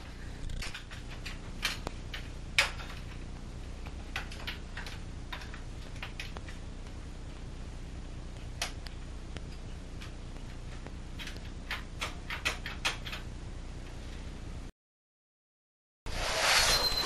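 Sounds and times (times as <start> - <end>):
low steady hum: 0.0 - 14.7.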